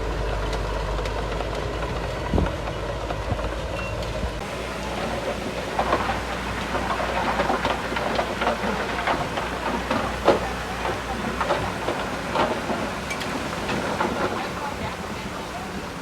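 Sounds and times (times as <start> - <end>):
bulldozer engine drone: 0.0 - 16.0
metallic track clanks and rattles: 1.0 - 16.0.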